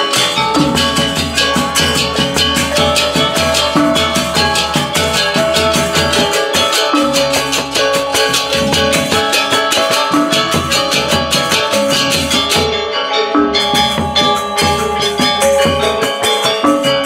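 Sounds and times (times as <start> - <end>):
gamelan metallophones ringing: 0.0 - 17.0.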